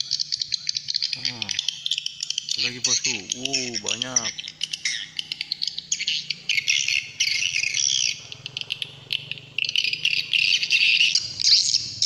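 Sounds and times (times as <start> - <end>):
bird chirps from phone speaker: 0.0 - 11.9.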